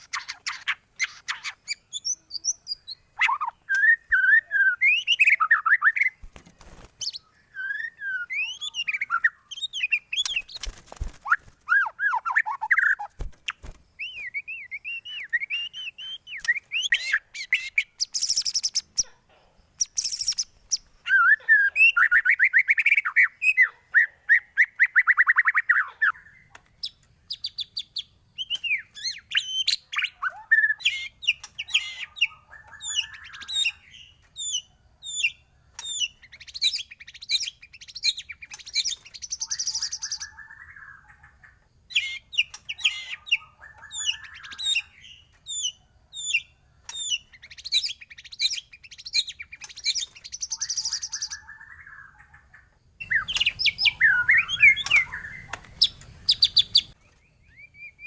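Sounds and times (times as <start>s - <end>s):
songbird singing whistled phrases: 0.0s - 6.3s, 7.0s - 10.6s, 11.2s - 19.0s, 19.8s - 58.0s.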